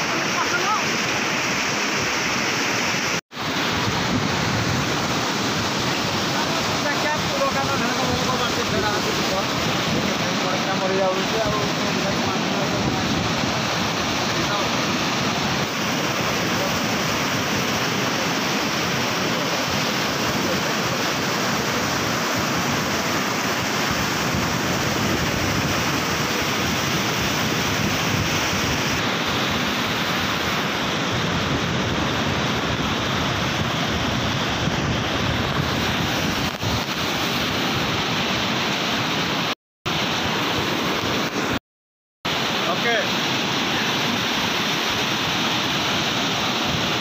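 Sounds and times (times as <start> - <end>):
floodwater rushing: 0.0 - 41.6, 42.3 - 47.0.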